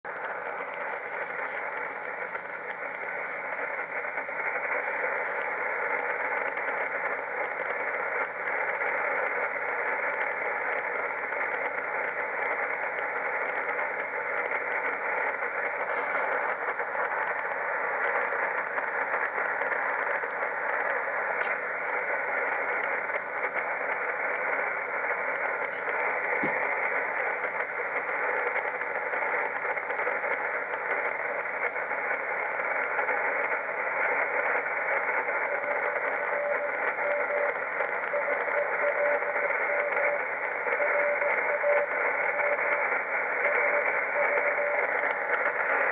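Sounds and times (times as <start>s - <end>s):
shortwave radio static hiss: 0.0s - 45.9s.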